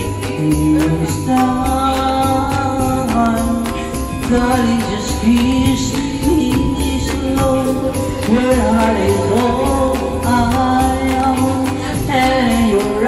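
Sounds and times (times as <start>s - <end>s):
backing track with steady beat: 0.0s - 13.0s
woman singing into microphone: 0.0s - 13.0s.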